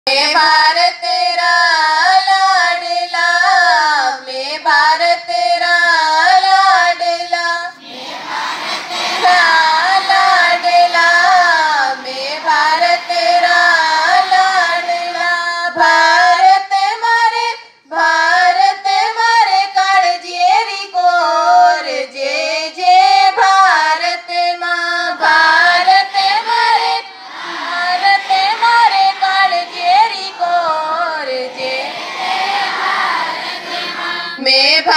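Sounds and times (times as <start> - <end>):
girls singing over loudspeakers: 0.1 - 34.9.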